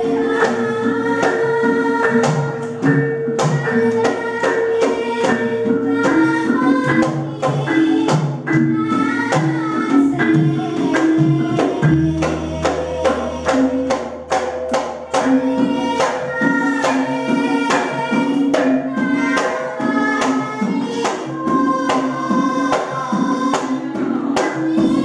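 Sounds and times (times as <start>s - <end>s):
girl singing through microphone: 0.0s - 14.2s, 15.1s - 25.0s.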